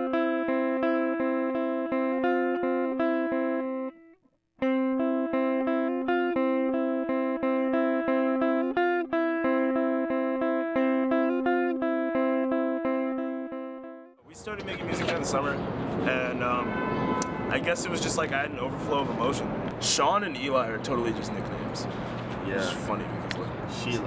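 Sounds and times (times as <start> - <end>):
guitar picking single notes: 0.0 - 24.0.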